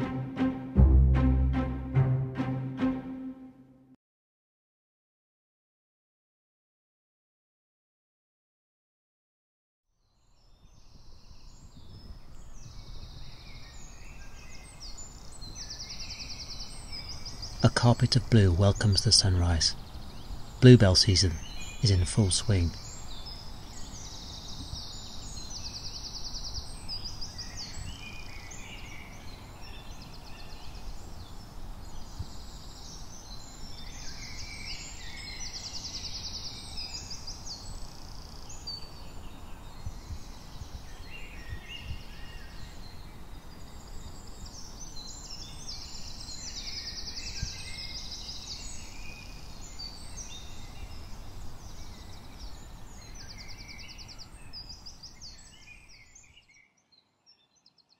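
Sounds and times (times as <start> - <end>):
songbirds singing: 10.0 - 57.9.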